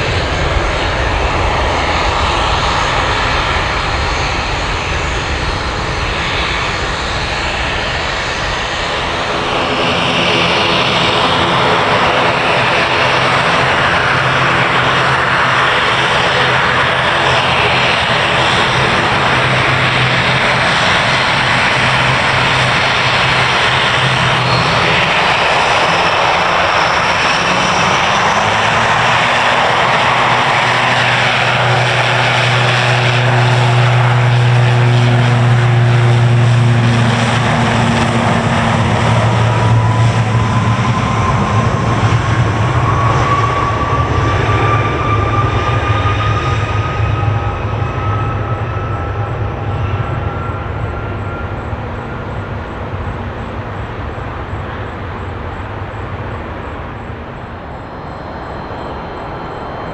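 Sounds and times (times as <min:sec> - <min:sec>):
airliner engines roaring: 0:00.0 - 0:59.9
rising whine: 0:00.0 - 0:59.9.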